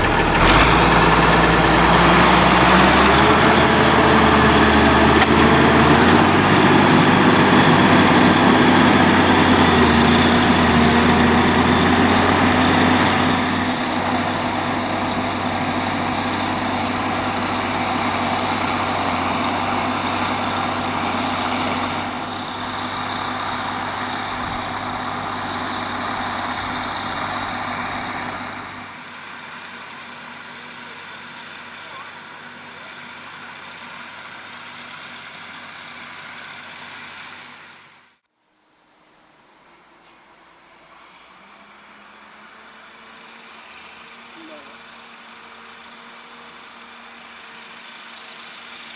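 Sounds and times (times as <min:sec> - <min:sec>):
tractor diesel engine under load: 0:00.0 - 0:38.2, 0:40.6 - 0:48.9.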